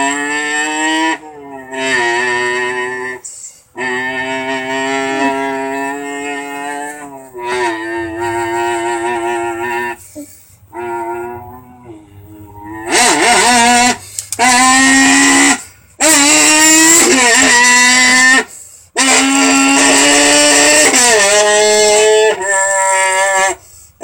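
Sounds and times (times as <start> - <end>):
voice imitating car engine: 0.0 - 23.7.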